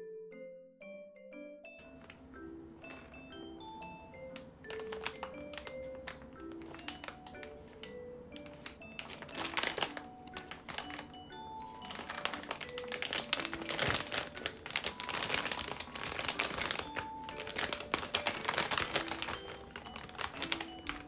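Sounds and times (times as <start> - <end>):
background music: 0.0 - 21.0
plastic bag crinkling: 1.8 - 2.2, 2.8 - 21.0.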